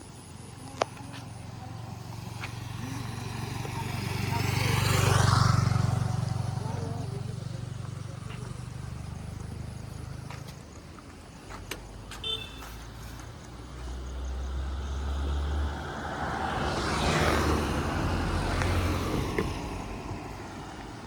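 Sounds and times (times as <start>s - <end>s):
motorcycle engine and exhaust: 0.0s - 21.0s
road noise rushing: 0.0s - 21.0s.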